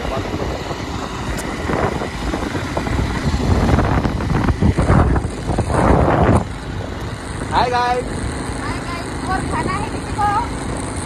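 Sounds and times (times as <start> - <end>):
motorcycle engine rumble: 0.0 - 11.0
wind buffeting the microphone: 0.0 - 11.0.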